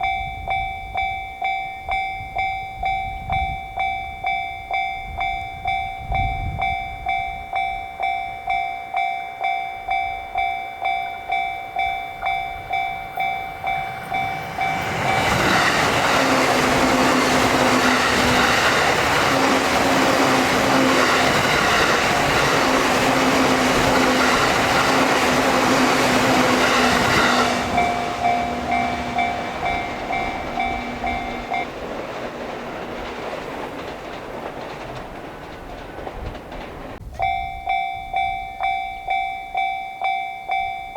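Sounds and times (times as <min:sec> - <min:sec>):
train passing: 0:00.0 - 0:39.7
level-crossing warning bell: 0:00.0 - 0:40.9.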